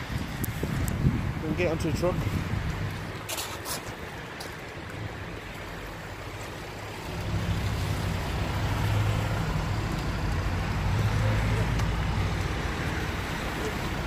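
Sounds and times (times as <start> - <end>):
outdoor rush: 0.0 - 14.0
vehicle engine humming: 0.0 - 14.0.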